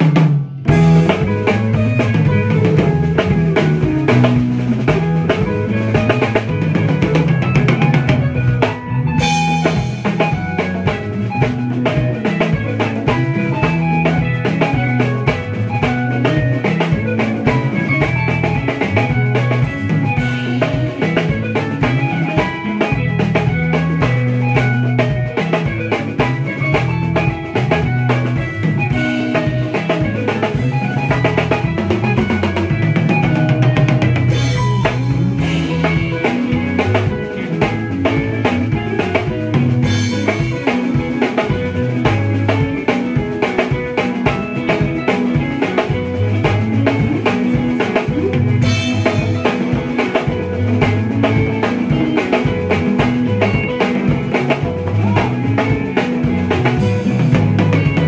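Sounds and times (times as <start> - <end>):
bright electric guitar lines: 0.0 - 58.0
busy bass line: 0.0 - 58.0
live dance band groove: 0.0 - 58.0.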